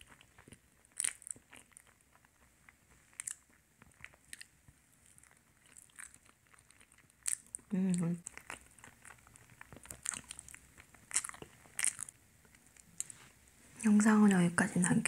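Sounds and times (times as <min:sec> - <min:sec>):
small clicks and crackles: 0:00.0 - 0:13.2.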